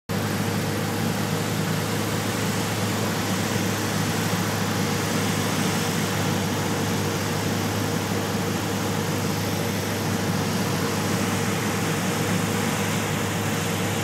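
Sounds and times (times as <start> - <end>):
light aircraft engine drone: 0.1 - 14.0
rushing airflow: 1.8 - 14.0.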